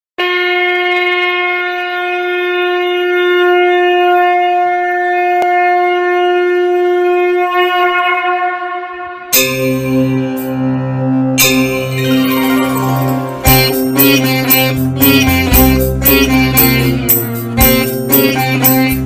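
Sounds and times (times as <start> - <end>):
conch shell blown: 0.2 - 19.0.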